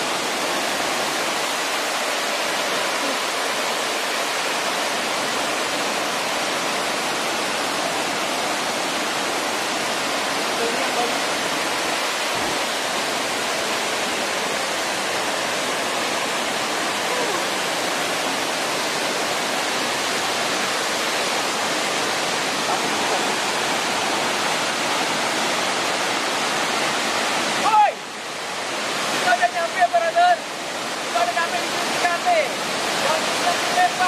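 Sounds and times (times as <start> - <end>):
waterfall rushing over rock: 0.0 - 34.0.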